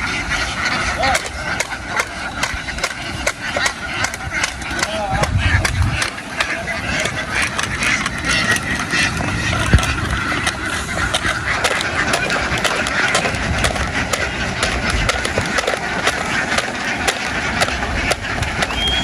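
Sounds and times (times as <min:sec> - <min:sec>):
flock of ducks quacking: 0:00.0 - 0:19.0.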